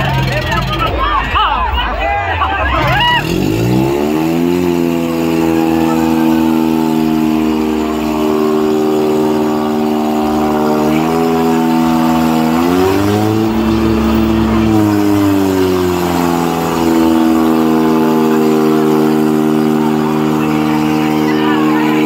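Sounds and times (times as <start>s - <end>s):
tractor diesel engine revving: 0.0s - 22.0s.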